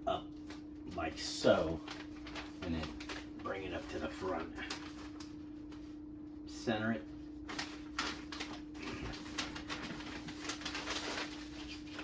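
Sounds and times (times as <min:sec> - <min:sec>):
steady low hum: 0:00.0 - 0:12.0
paper rustling and crinkling: 0:00.4 - 0:06.0, 0:07.0 - 0:12.0.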